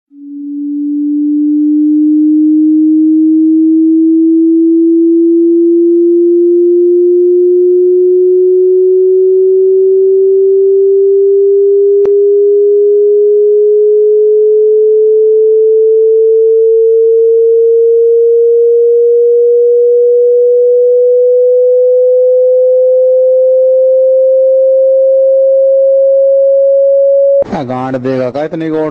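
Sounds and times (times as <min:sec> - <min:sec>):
rising pure tone: 0:00.1 - 0:28.9.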